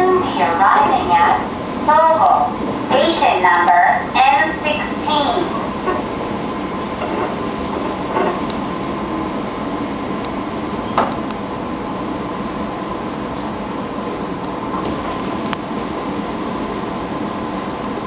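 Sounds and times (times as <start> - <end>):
train cab equipment hum: 0.0 - 18.0.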